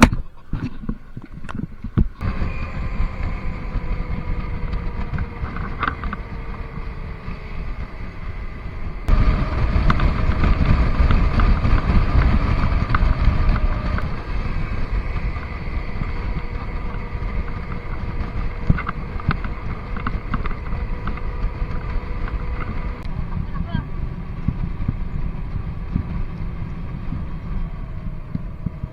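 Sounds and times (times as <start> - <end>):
motorcycle engine and road hum: 0.0 - 28.9
wind rushing over microphone: 0.0 - 28.9.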